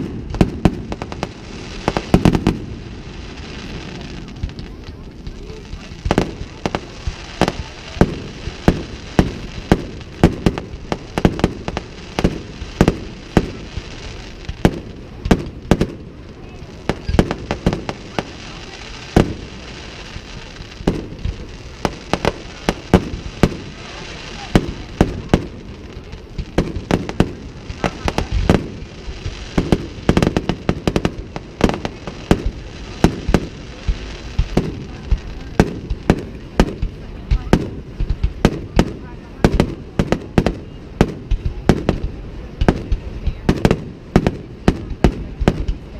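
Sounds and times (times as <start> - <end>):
fireworks bangs and pops: 0.0 - 45.9
steady background noise: 0.0 - 45.9.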